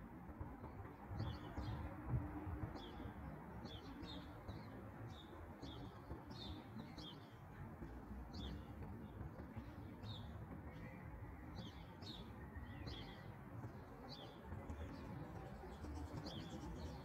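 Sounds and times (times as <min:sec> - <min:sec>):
small birds chirping: 0:01.1 - 0:17.0.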